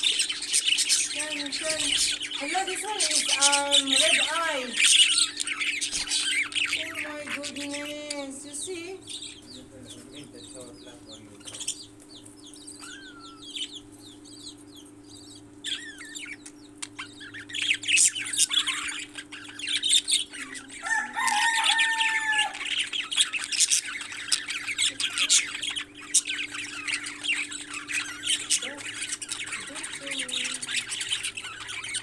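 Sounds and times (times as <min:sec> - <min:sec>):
parrots squawking: 0:00.0 - 0:32.0
steady low hum: 0:00.0 - 0:32.0.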